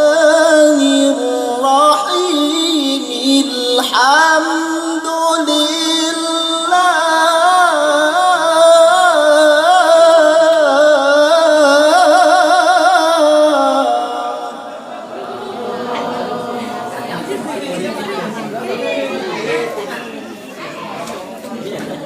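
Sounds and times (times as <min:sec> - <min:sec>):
man chanting melismatic recitation: 0:00.0 - 0:19.8.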